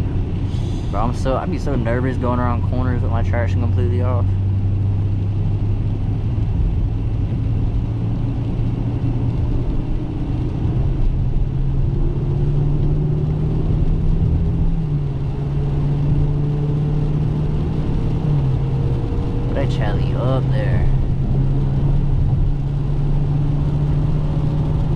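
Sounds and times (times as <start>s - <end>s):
car engine cruising: 0.0s - 24.9s
low road rumble: 0.0s - 24.9s.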